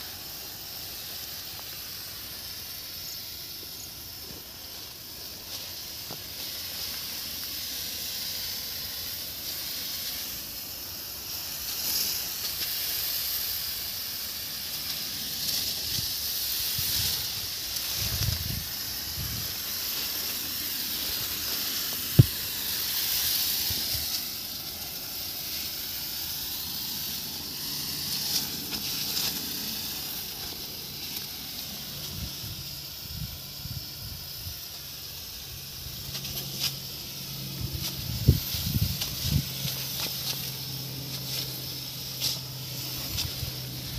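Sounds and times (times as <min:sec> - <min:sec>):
sprayer hissing: 0:00.0 - 0:43.9.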